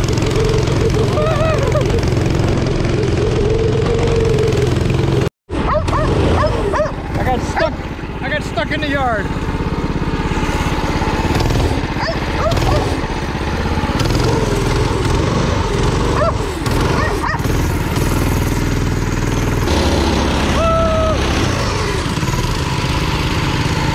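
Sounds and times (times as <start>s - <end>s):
go-kart engine running: 0.0s - 23.9s.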